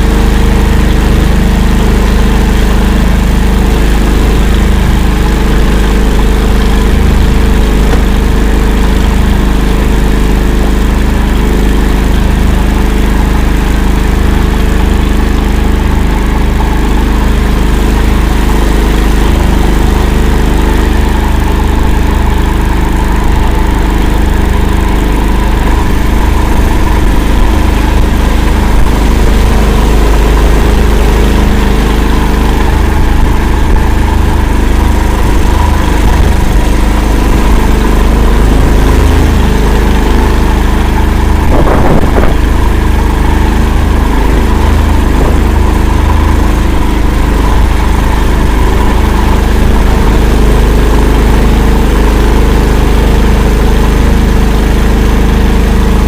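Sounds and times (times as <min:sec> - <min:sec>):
vehicle engine running loudly: 0:00.0 - 0:56.0.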